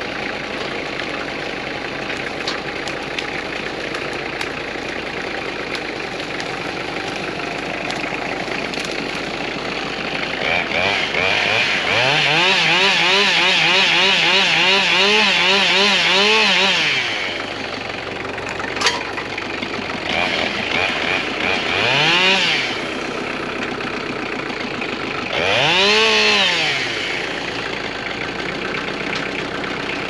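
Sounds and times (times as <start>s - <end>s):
chainsaw revving and idling: 0.0s - 30.0s.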